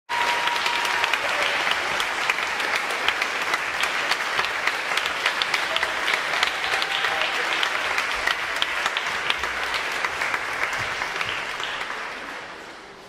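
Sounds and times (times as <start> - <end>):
audience applauding: 0.1 - 13.0.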